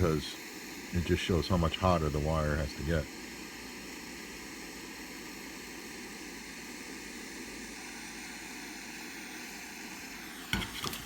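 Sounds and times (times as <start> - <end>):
soldering torch hissing: 0.0 - 11.0.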